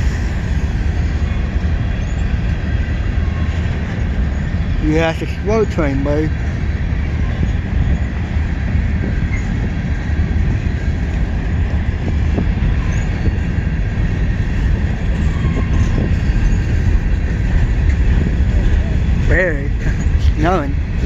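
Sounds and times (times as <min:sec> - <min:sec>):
freight train wheels rumbling on rail: 0:00.0 - 0:21.0.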